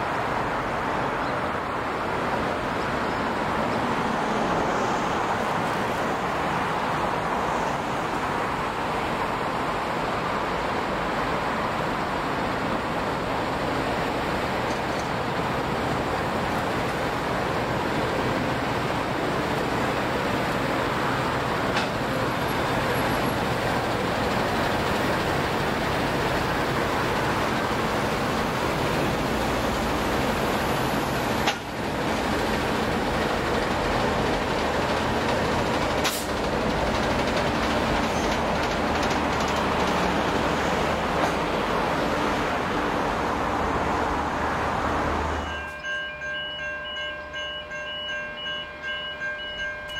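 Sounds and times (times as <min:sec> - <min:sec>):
train rumbling past: 0:00.0 - 0:49.9.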